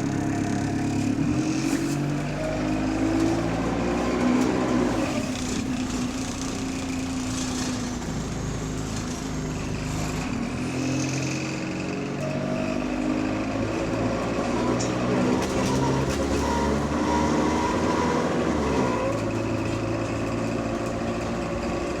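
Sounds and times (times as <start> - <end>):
diesel bus engine running: 0.0 - 22.0.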